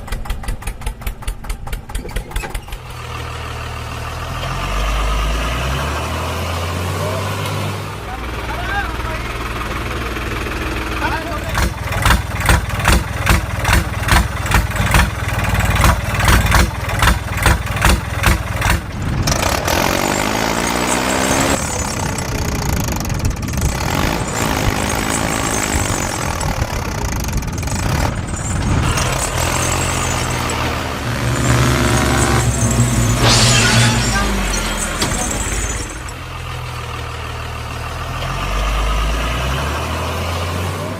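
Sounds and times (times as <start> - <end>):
heavy engine chugging and revving: 0.0 - 40.9.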